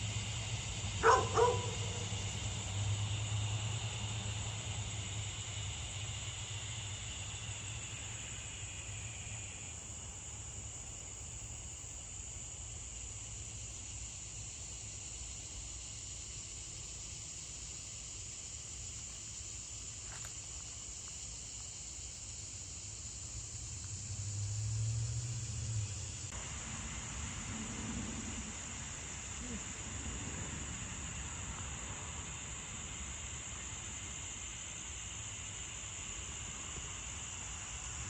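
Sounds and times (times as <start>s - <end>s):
crickets trilling: 0.0s - 38.0s
lower insect trill: 0.0s - 38.0s.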